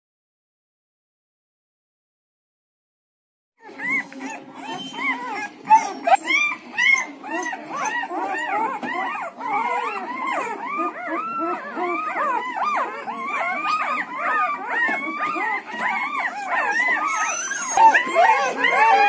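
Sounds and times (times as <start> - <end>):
puppies whining and squealing: 3.6 - 19.0.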